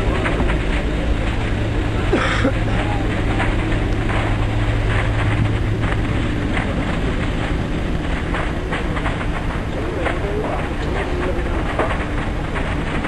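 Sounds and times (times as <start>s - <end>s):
loud low rumble: 0.0s - 13.0s
wind noise on microphone: 0.0s - 13.0s.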